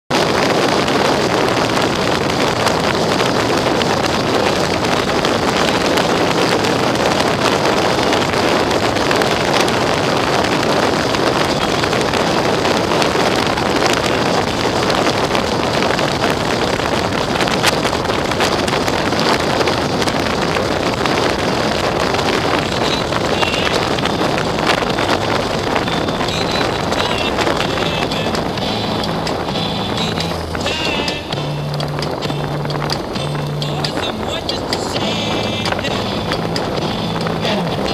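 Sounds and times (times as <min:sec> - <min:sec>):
wind rushing over microphone: 0:00.0 - 0:37.9
motorcycle engine: 0:00.1 - 0:37.9
tyre noise: 0:00.1 - 0:37.9.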